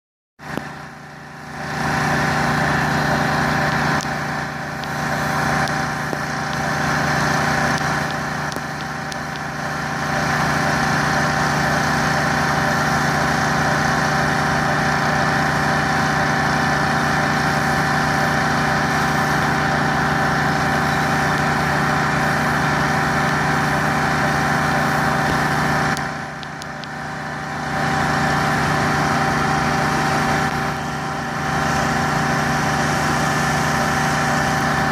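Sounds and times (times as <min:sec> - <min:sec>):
pressure washer engine running: 0:00.4 - 0:34.9
high-pressure jet hissing: 0:00.5 - 0:34.9.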